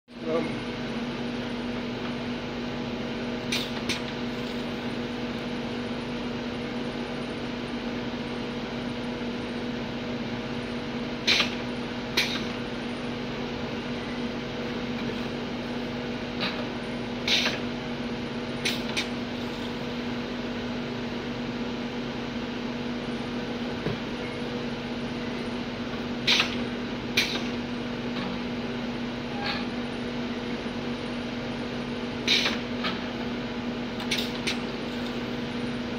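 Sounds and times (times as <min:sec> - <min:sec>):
filling machine humming: 0:00.1 - 0:35.9.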